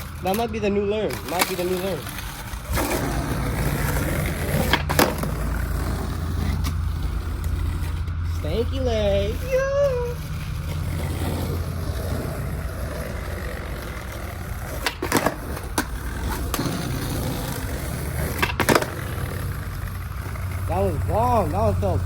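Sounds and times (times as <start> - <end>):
skateboard clacking: 0.0 - 22.0
skateboard wheels rolling on pavement: 0.0 - 22.0.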